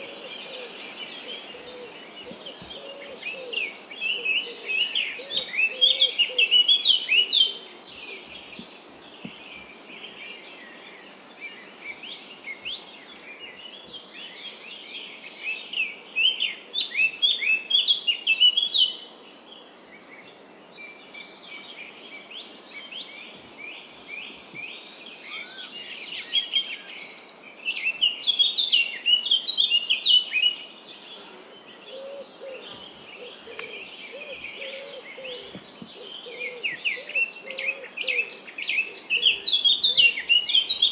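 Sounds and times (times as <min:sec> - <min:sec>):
birds chirping: 0:00.0 - 0:40.9
faint background hiss: 0:00.0 - 0:40.9.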